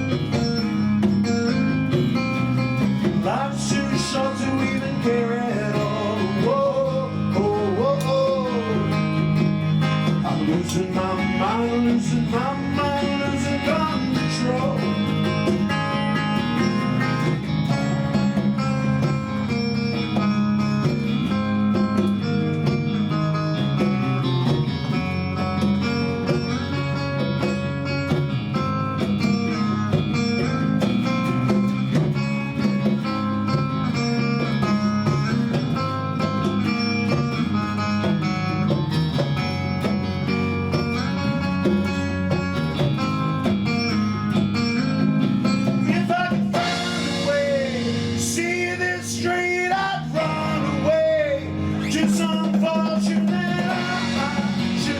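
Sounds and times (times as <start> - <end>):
band playing guitars and drums: 0.0 - 54.9.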